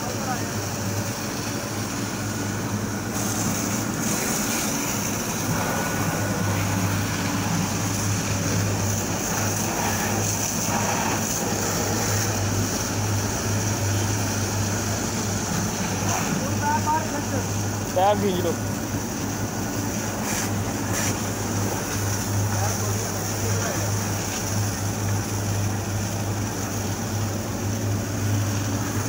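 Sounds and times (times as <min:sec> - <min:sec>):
high-pressure water jet spraying: 0:00.0 - 0:29.0
jetting machine engine drone: 0:00.0 - 0:29.0.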